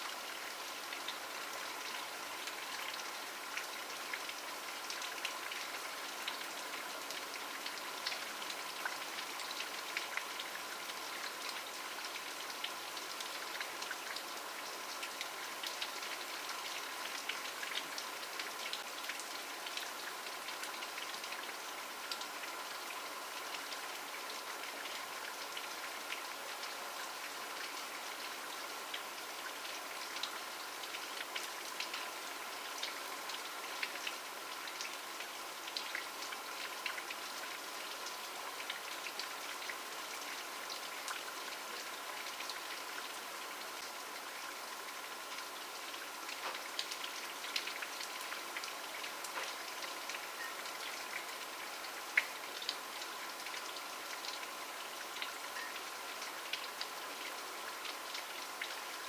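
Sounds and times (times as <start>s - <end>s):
steady rain hiss: 0.0s - 59.0s
raindrops ticking on surface: 0.1s - 59.0s.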